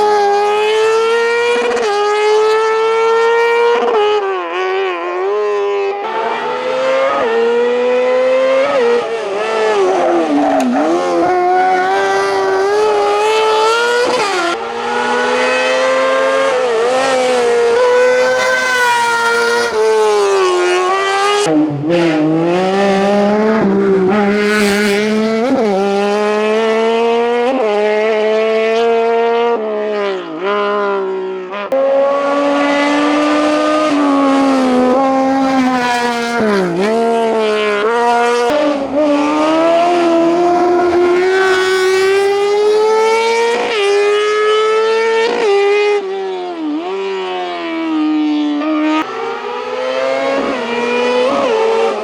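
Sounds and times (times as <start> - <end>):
race car engine revving: 0.0 - 29.5, 30.3 - 52.0.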